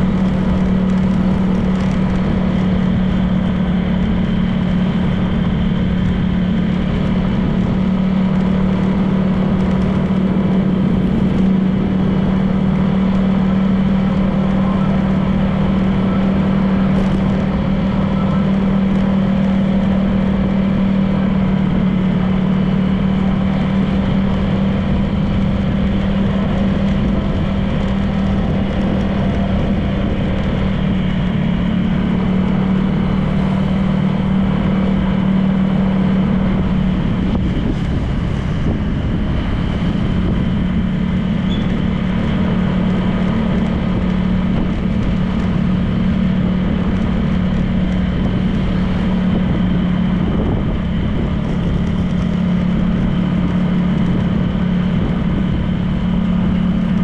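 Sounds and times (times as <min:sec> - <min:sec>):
scooter engine cruising: 0:00.0 - 0:57.0
wind and road noise: 0:00.0 - 0:57.0.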